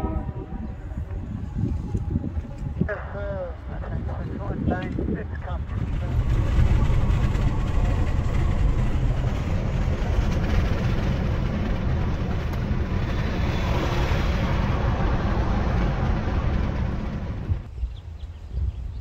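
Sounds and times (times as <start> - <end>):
low rumble with air rush: 0.0 - 19.0.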